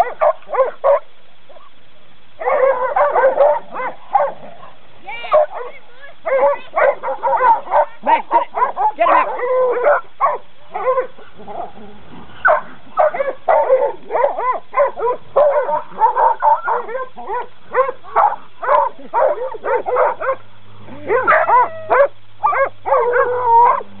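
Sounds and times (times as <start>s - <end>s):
dogs barking excitedly: 0.0s - 1.8s, 2.4s - 24.0s.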